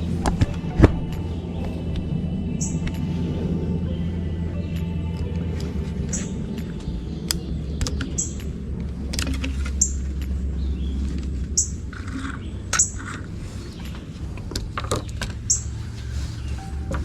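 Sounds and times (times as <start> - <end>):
bird chirping: 0.0 - 17.0
steady low hum: 0.0 - 17.0.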